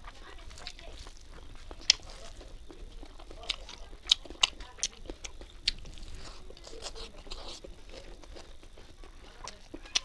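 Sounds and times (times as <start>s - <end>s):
crunchy bites: 0.0s - 10.0s
mouth clicks: 0.0s - 10.0s
wet chewing and lip smacks: 0.0s - 10.0s.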